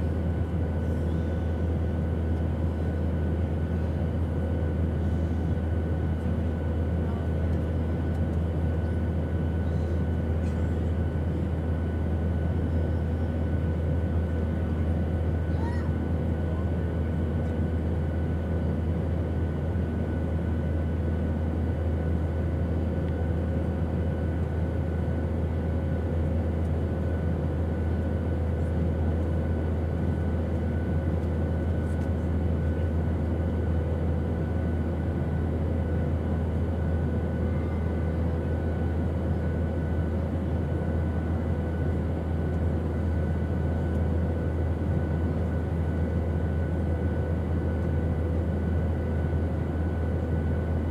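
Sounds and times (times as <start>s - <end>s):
airplane engine drone: 0.0s - 50.9s.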